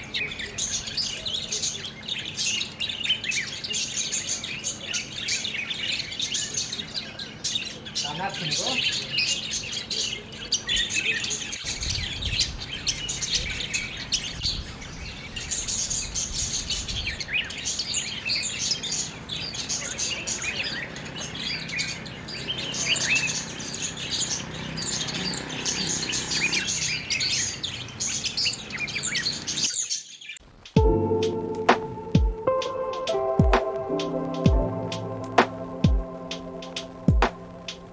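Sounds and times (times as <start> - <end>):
budgerigars chirping: 0.0 - 30.4.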